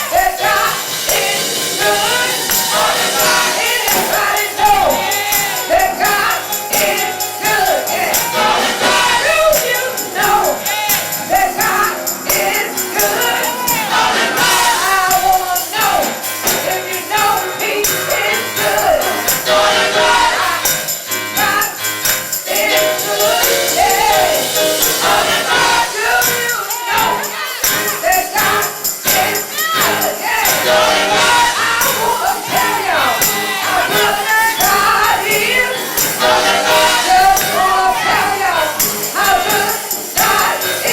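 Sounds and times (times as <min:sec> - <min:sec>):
tambourine jingles: 0:00.0 - 0:40.9
voices singing gospel: 0:00.0 - 0:40.9.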